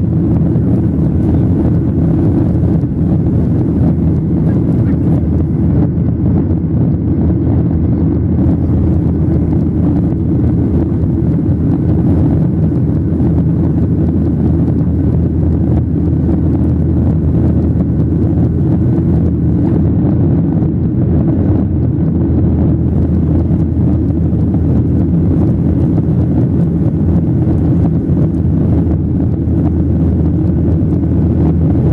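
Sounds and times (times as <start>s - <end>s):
jet engines droning: 0.0s - 31.9s
rushing airflow: 0.0s - 31.9s.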